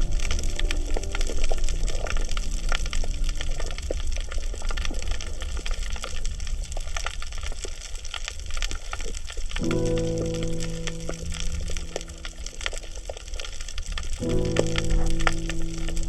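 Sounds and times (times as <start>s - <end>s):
low rumble of moving water: 0.0s - 16.0s
underwater crackle of sharp clicks: 0.0s - 16.0s.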